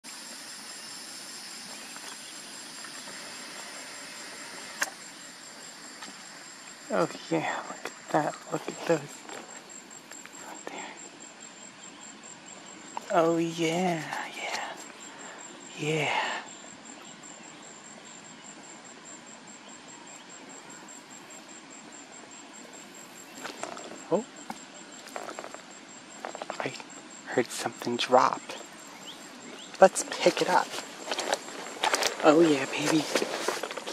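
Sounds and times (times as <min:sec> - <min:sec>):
insect chirring: 0:00.0 - 0:33.9
soft hiss: 0:00.0 - 0:33.9.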